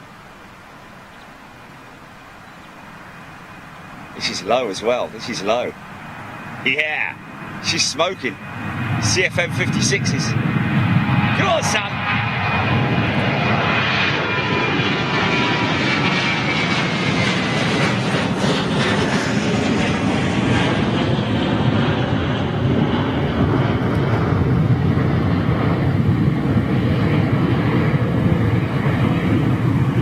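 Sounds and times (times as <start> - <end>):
jet engines roaring at take-off: 2.9 - 30.0.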